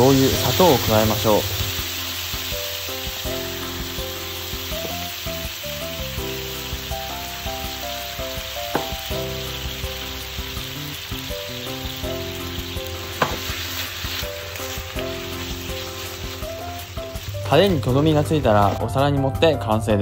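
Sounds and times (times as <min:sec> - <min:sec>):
meat sizzling in a frying pan: 0:00.0 - 0:19.4
simple background melody: 0:00.0 - 0:20.0.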